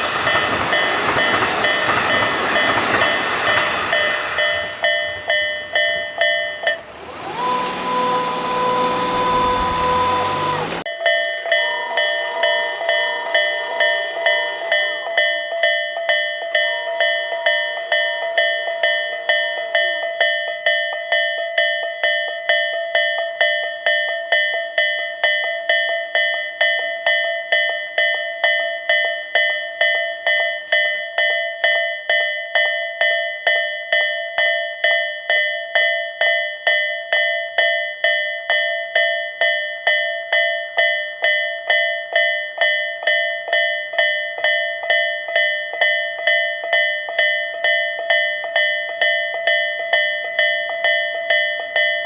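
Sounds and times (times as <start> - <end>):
level-crossing warning bell ringing: 0.0 - 52.0.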